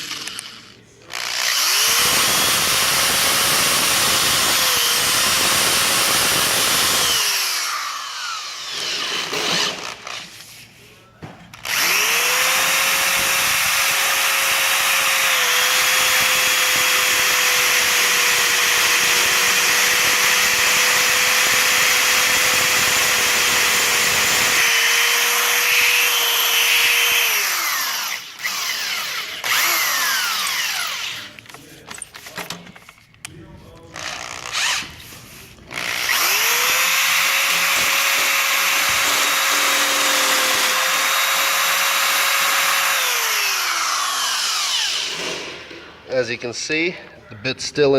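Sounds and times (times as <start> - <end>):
power drill whining into steel: 0.0 - 10.5, 11.5 - 31.4, 34.0 - 46.0.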